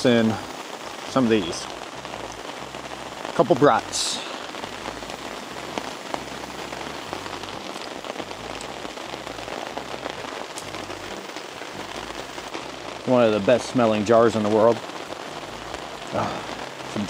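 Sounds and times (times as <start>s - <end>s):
rain falling on a tarp: 0.0s - 17.0s
raindrop ticks: 0.0s - 17.0s.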